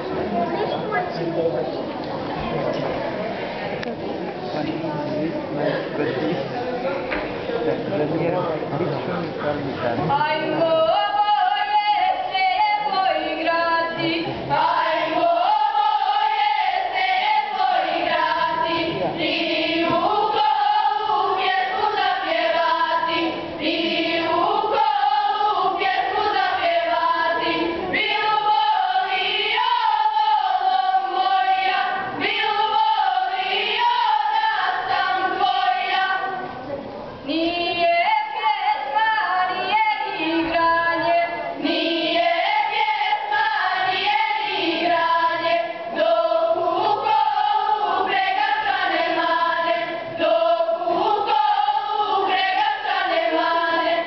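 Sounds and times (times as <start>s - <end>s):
girls' choir singing: 10.1s - 54.0s.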